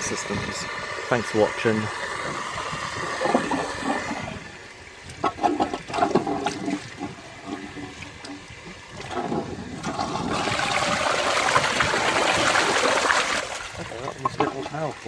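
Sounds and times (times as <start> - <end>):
toilet cistern flushing: 0.0 - 15.0.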